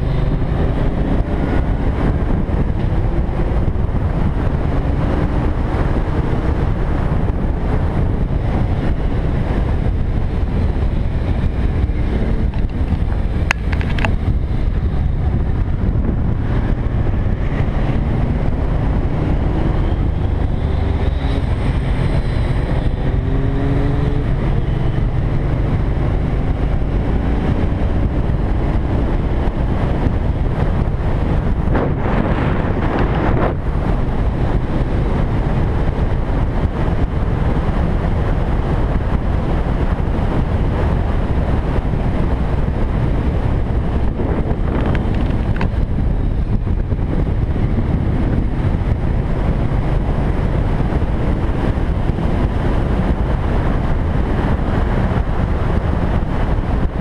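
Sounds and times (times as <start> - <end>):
motorcycle engine revving: 0.0 - 57.0
wind rumble on microphone: 0.0 - 57.0.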